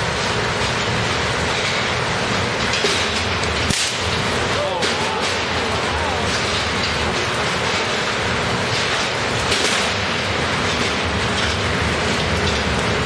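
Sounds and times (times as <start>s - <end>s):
steady low hum: 0.0s - 13.0s
electrical sparks crackling: 2.0s - 13.0s.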